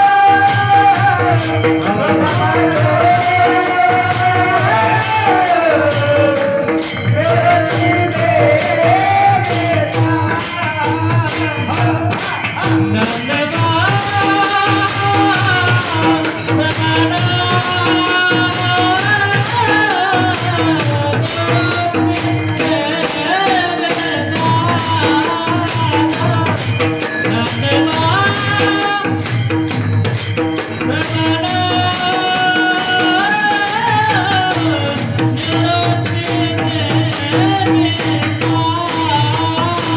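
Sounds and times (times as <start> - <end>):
jingling hand cymbals: 0.0 - 39.9
man singing devotional song: 0.0 - 39.9
pakhawaj drum: 0.0 - 39.9.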